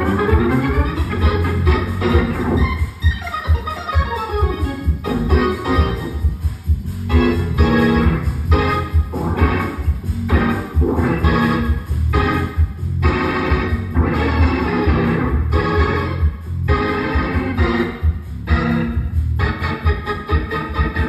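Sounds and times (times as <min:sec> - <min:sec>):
heavy bass line: 0:00.0 - 0:21.0
organ chords: 0:00.0 - 0:21.0.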